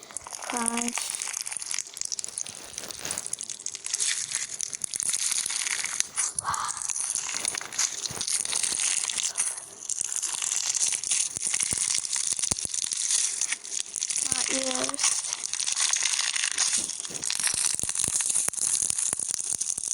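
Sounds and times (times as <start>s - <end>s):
brittle material crunching: 0.0s - 19.9s.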